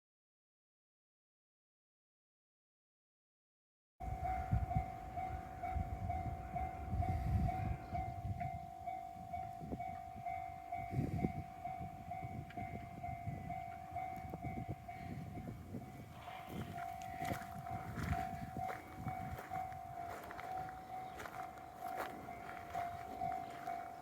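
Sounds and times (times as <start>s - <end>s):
level crossing bell ringing: 4.0s - 24.0s.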